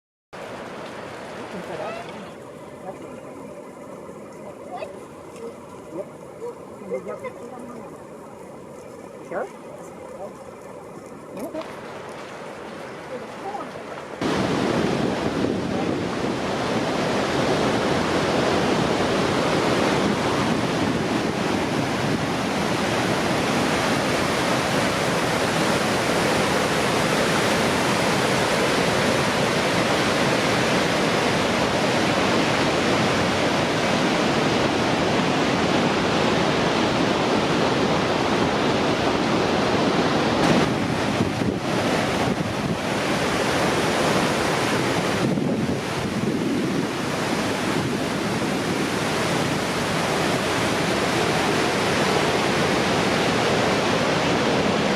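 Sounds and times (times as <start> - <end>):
loud rush of falling water: 0.4 - 3.6, 11.6 - 54.9.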